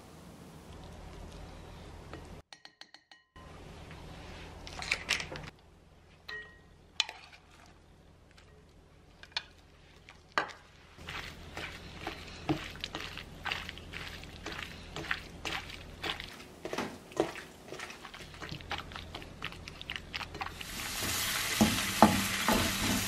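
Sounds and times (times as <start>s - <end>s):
low steady hum: 0.0s - 2.4s, 3.4s - 23.0s.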